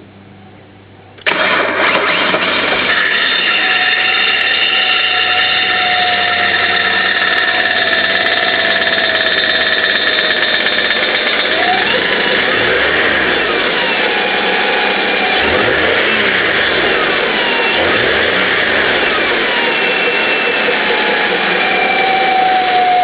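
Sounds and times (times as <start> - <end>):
steady whining tones: 0.0 - 23.0
car engine starting with rushing noise: 1.2 - 23.0.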